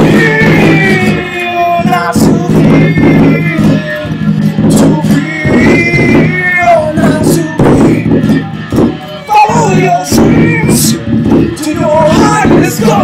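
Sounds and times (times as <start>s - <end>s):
drum hits: 0.0s - 13.0s.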